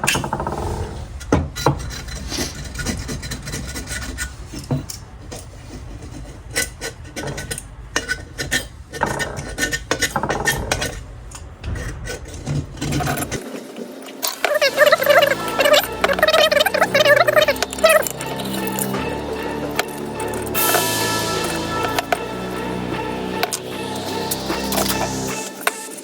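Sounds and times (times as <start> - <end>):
scraping and rubbing metal part: 0.0 - 13.4, 14.3 - 26.0.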